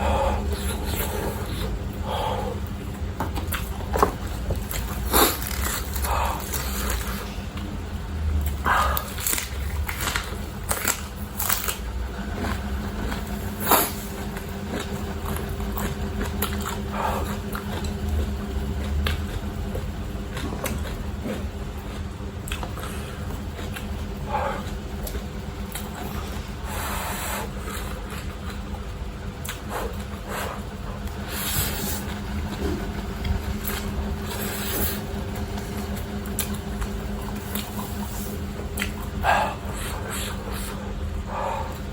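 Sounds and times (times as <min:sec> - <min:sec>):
person chewing noodles: 0:00.0 - 0:41.9
steady low hum: 0:00.0 - 0:41.9.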